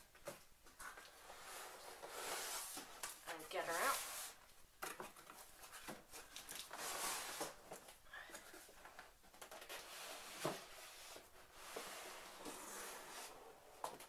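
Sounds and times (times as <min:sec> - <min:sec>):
cardboard rustling and scraping: 0:00.2 - 0:08.0, 0:08.8 - 0:14.0.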